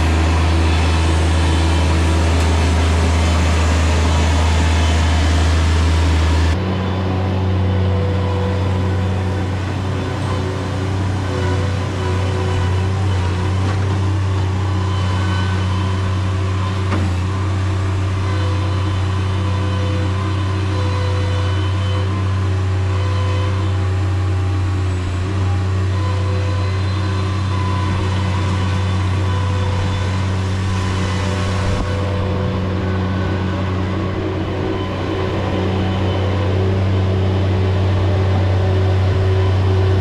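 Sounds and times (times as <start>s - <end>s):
mini skid steer engine running: 0.0s - 40.0s
whining tones: 0.0s - 40.0s.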